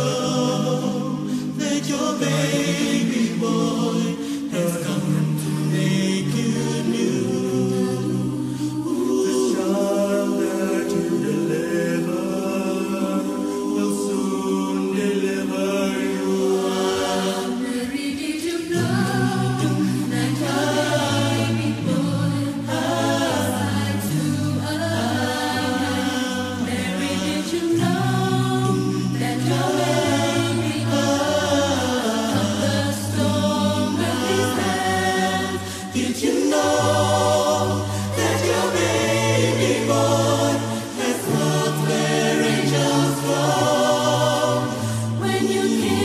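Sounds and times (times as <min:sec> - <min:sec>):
choir singing in close harmony: 0:00.0 - 0:46.0.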